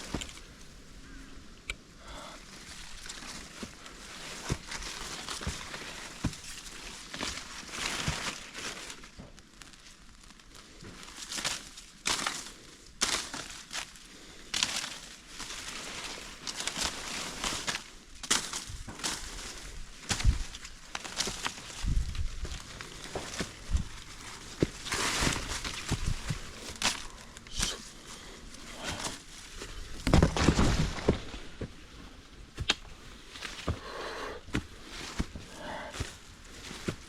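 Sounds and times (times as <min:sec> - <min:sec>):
footsteps crunching through dry leaves: 0:02.4 - 0:37.0.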